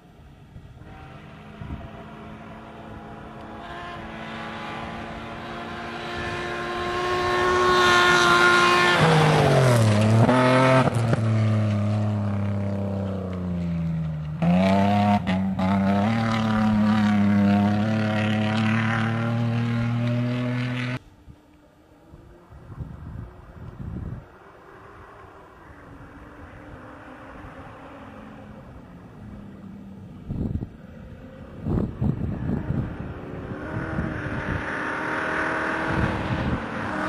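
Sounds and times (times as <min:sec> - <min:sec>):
rally car engine passing: 0:00.2 - 0:21.0, 0:21.6 - 0:37.0
rally car engine rising pitch: 0:00.8 - 0:21.0, 0:21.6 - 0:37.0.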